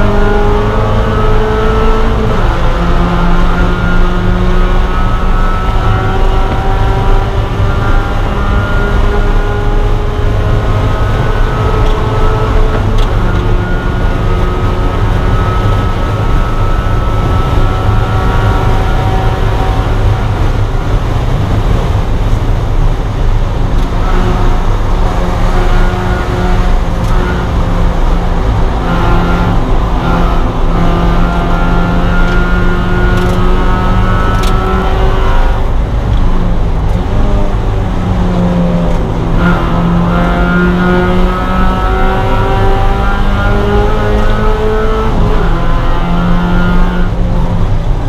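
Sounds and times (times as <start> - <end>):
race car engine under power: 0.0 - 48.0
road and wind noise: 0.0 - 48.0.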